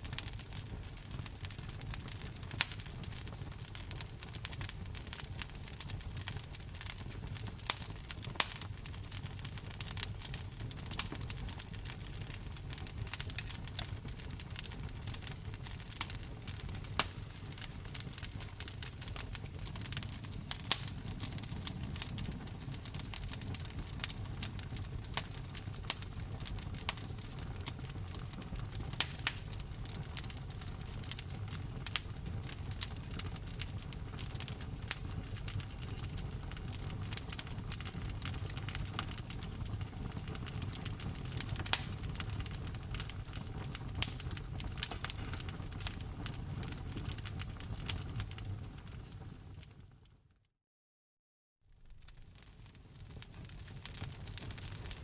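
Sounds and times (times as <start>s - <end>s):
wood crackling and popping: 0.0s - 49.6s, 51.8s - 55.0s
low rumble of flame: 0.0s - 50.1s, 51.7s - 55.0s.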